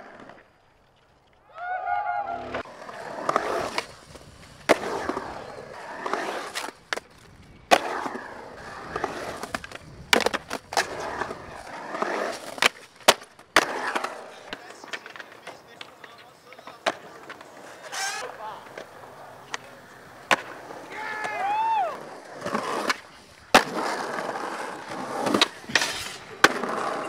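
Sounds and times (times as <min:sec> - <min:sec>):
skateboard wheels rolling on concrete: 0:00.0 - 0:27.0
skateboard clacking: 0:02.5 - 0:27.0.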